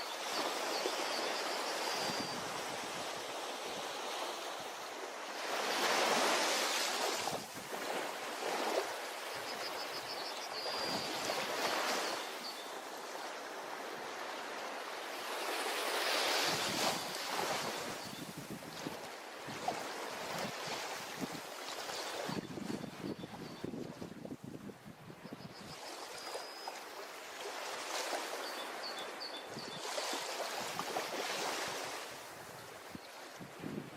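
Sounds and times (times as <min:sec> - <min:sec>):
ocean waves breaking on beach: 0:00.0 - 0:25.0, 0:25.8 - 0:33.9.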